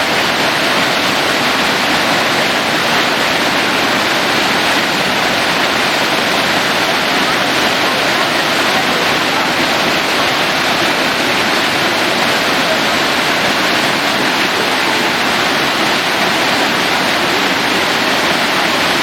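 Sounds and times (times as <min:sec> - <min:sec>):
waterfall pouring into a pool: 0:00.0 - 0:19.0.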